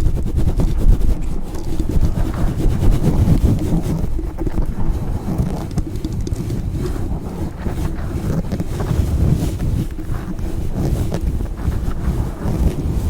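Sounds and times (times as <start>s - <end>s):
rubbing on microphone: 0.0s - 13.0s.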